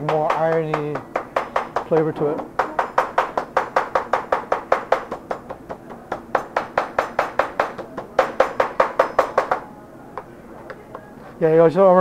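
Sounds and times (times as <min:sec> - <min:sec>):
knife chopping meat on a board: 0:00.0 - 0:09.6.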